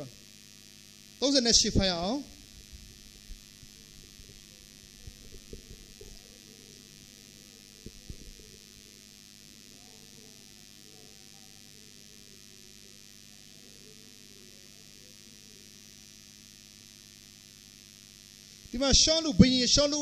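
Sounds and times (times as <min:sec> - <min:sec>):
background hiss: 0:00.0 - 0:20.0
electrical mains hum: 0:00.0 - 0:20.0.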